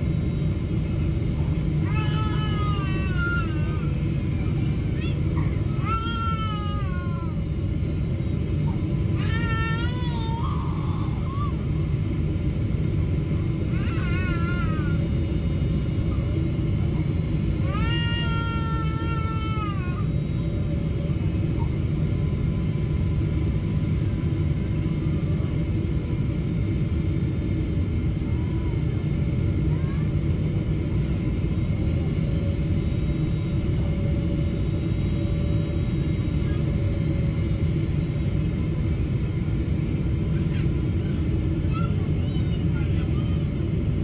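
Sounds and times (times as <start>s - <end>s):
faint steady whine: 0.0s - 44.0s
jet cabin roar: 0.0s - 44.0s.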